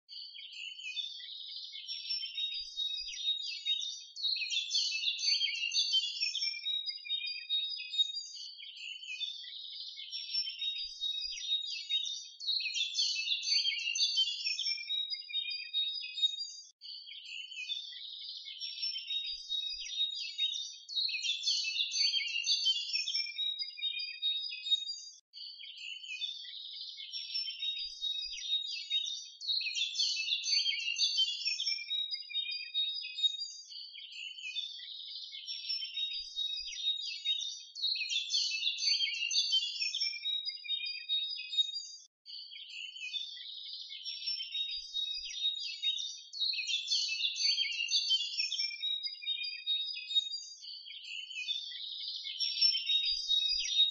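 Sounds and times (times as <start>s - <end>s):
birds chirping and twittering: 0.0s - 53.9s.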